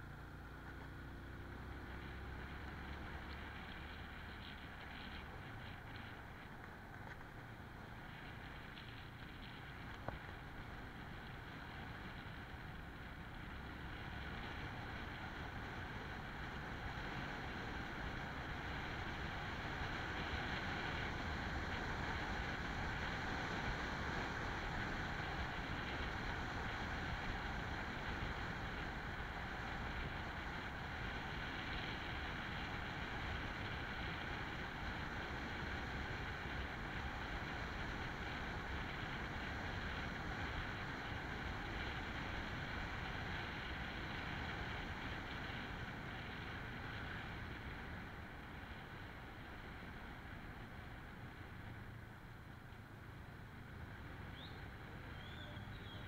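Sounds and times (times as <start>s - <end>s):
motorcycle engine: 0.0s - 56.0s
road noise: 0.0s - 56.0s.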